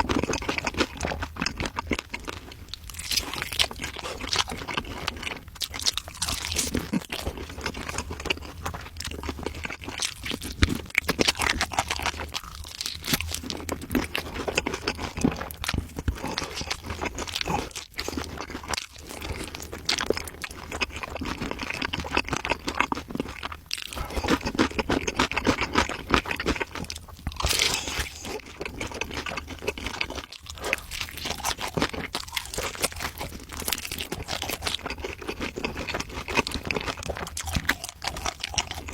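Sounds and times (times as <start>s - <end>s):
crunchy food being chewed: 0.0s - 38.9s.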